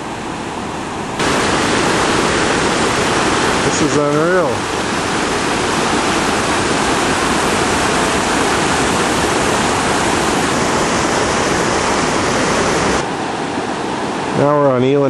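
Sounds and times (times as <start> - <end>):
flood water rushing over ground: 1.0 - 14.6.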